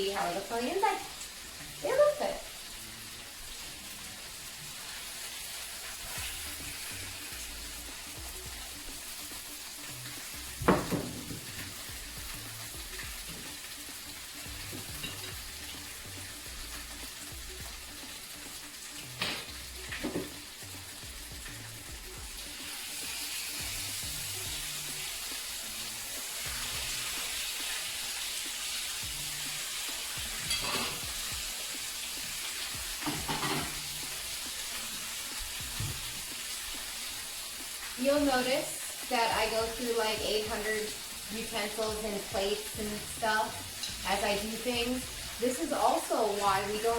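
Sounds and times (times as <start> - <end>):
food sizzling in a pan: 0.0 - 46.9.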